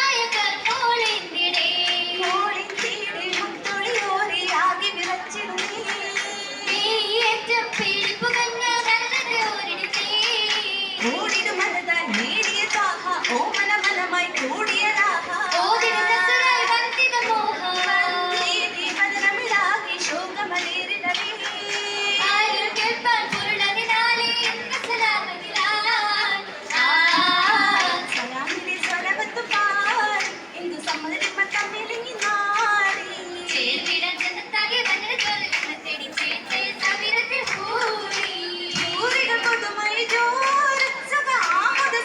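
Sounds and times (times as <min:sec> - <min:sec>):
hand claps: 0:00.0 - 0:42.0
young voices singing: 0:00.0 - 0:42.0.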